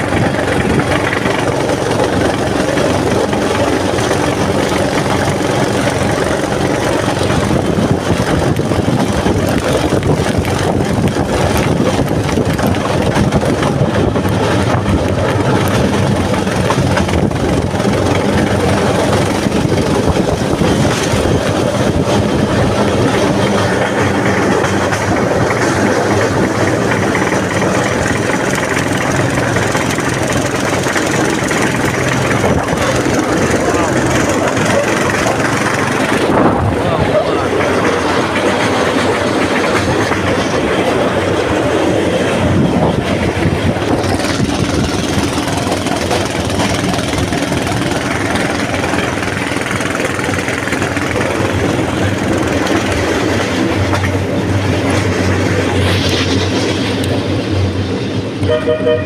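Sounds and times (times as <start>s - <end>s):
wheels rolling over rails: 0.0s - 58.4s
rail trolley engine running: 0.0s - 59.0s.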